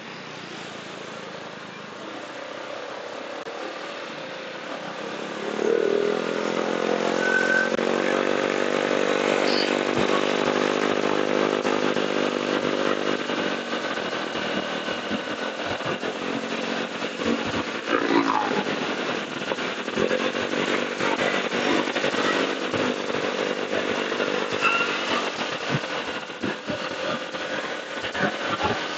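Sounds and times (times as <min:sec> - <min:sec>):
motorcycle engine: 0:00.0 - 0:28.9
road noise: 0:00.0 - 0:28.9.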